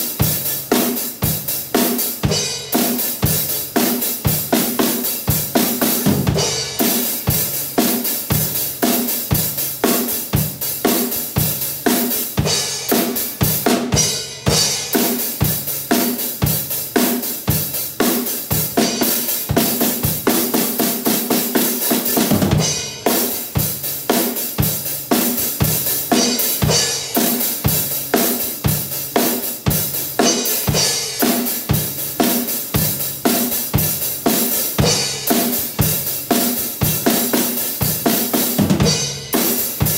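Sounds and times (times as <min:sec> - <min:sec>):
drum kit playing rock beat: 0:00.0 - 0:39.9.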